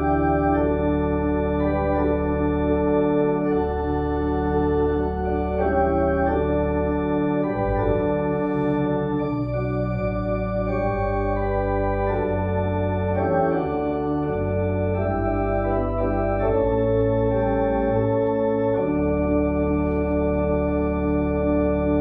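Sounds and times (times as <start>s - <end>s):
church organ playing a hymn: 0.0s - 22.0s.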